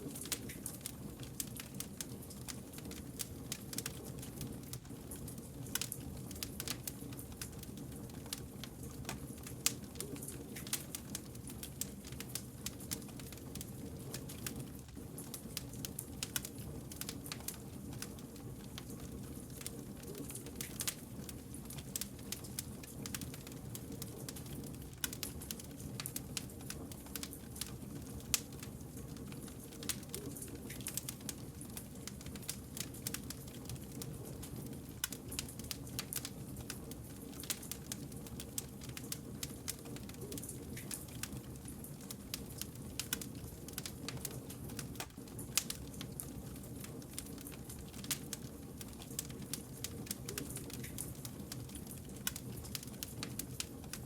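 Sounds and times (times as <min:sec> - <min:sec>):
low rumble of burning logs: 0:00.0 - 0:54.0
wood fire crackling: 0:00.0 - 0:54.0.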